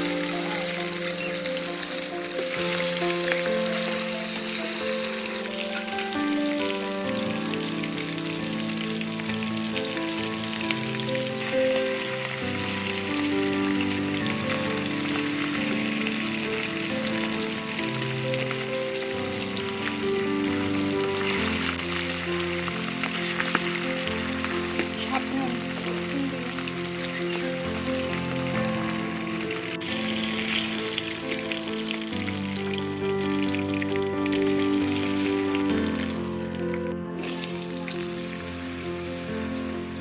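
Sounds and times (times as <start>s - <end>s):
fish sizzling in hot oil: 0.0s - 40.0s
instrumental background music: 0.0s - 40.0s.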